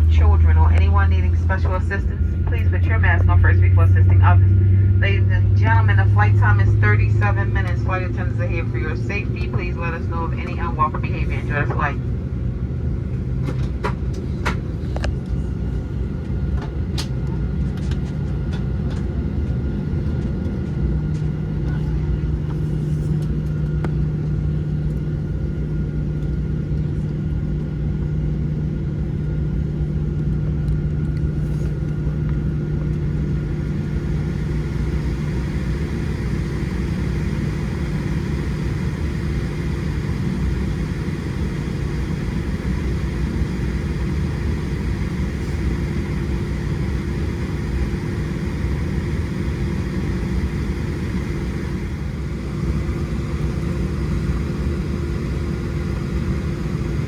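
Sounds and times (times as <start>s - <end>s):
airplane cabin engine rumble: 0.0s - 57.0s
high engine whine: 0.0s - 57.0s.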